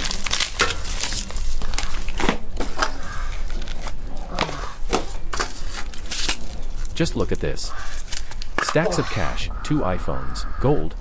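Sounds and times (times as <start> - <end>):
crinkling and rustling: 0.0 - 9.0.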